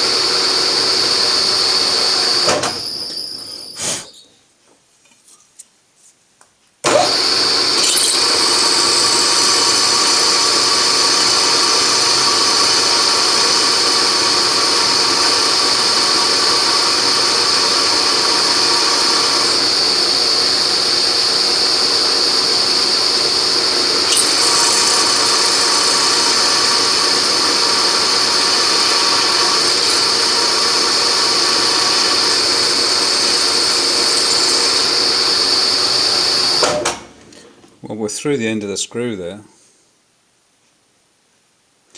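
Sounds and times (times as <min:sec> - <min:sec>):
milling machine drilling: 0:00.0 - 0:04.1, 0:06.8 - 0:36.8.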